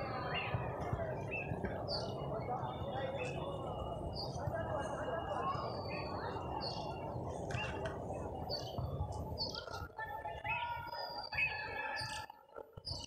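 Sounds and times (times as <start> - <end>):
small birds chirping: 0.2 - 13.0.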